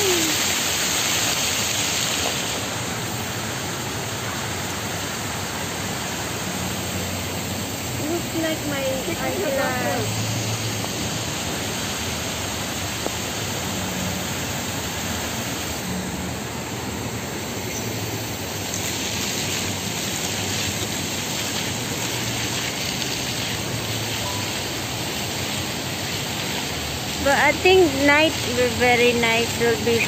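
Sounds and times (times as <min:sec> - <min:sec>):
fountain water rushing: 0:00.0 - 0:30.0.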